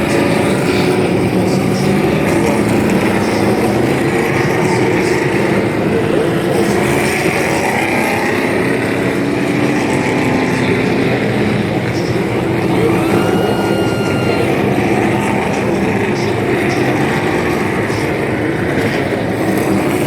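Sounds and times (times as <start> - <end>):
race truck engines droning: 0.0 - 20.0.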